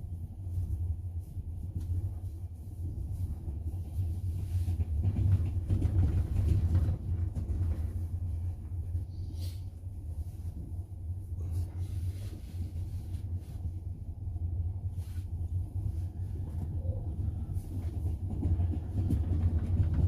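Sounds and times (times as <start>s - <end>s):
train rumble from inside carriage: 0.0s - 20.0s.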